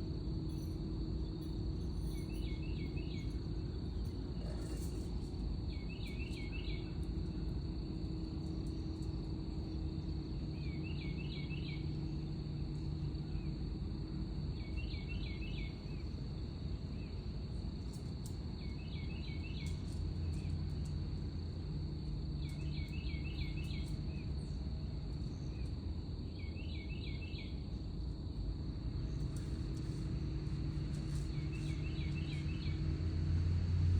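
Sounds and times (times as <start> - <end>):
crickets droning: 0.0 - 33.9.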